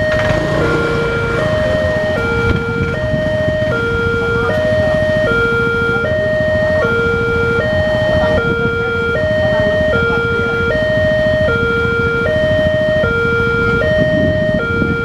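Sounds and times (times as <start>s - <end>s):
level crossing warning alarm: 0.0s - 15.0s.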